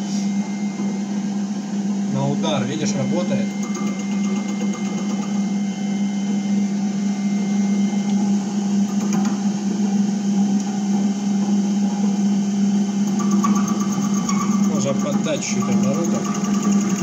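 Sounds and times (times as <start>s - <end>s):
lathe running with steady hum: 0.0s - 17.0s.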